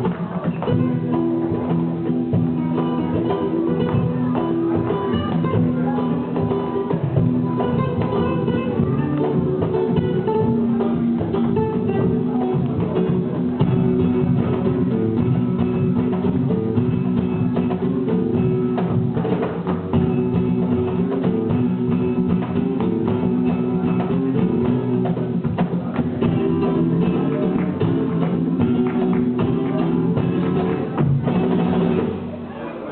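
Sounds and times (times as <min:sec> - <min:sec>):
acoustic guitar: 0:00.0 - 0:32.9
flamenco band music: 0:00.0 - 0:32.9.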